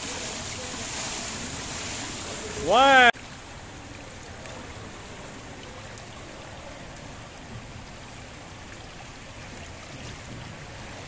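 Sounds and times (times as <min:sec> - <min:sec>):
swimming pool water rushing: 0:00.0 - 0:11.0.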